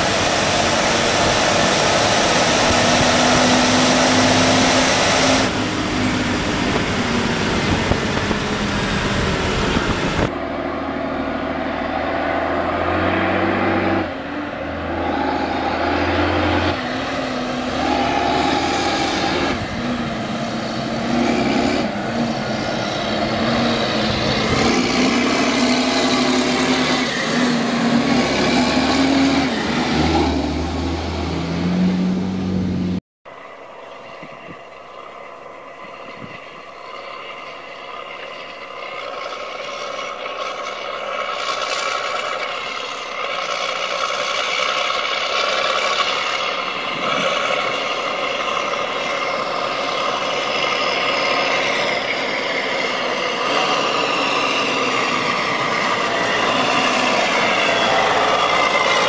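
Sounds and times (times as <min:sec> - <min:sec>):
tracked tractor engine approaching: 0:00.0 - 0:59.0
tractor diesel engine running: 0:00.0 - 0:59.0.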